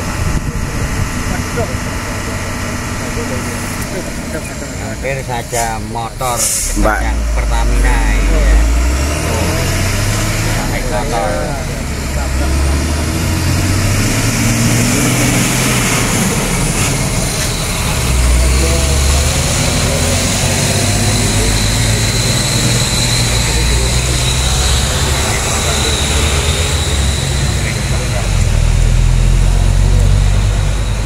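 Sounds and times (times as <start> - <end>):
box truck following: 0.0 - 31.0
truck diesel engine passing: 0.0 - 31.0.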